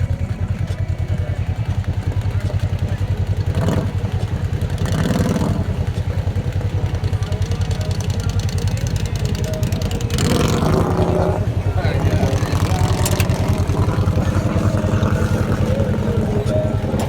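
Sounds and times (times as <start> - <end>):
vehicle engine running at low revs: 0.0 - 17.0.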